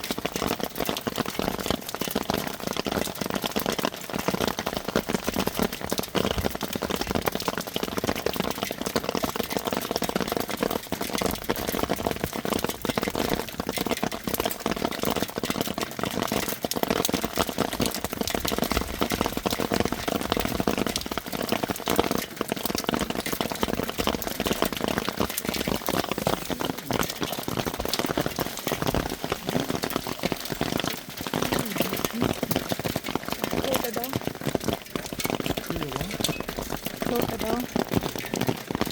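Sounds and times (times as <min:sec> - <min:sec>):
hailstones clattering on a surface: 0:00.0 - 0:38.9.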